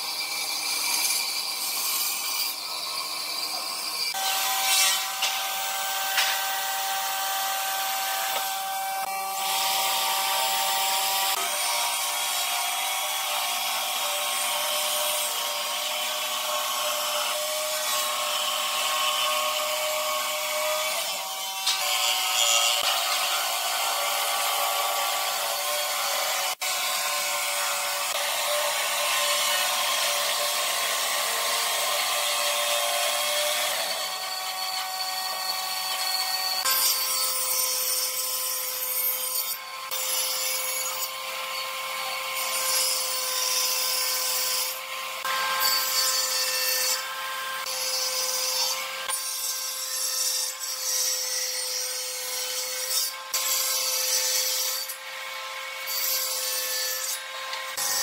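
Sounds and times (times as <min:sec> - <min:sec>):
power tool cutting wood: 0:00.0 - 0:58.0.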